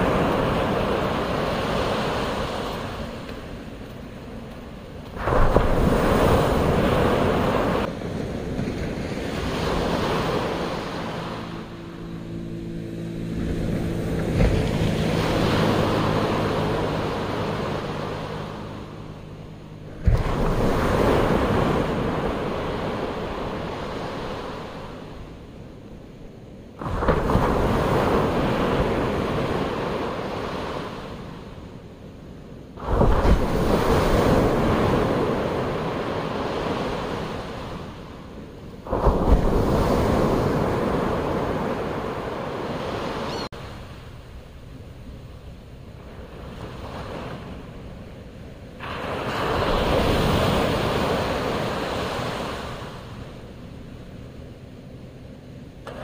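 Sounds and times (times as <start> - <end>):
ocean waves crashing on beach: 0.0 - 56.0.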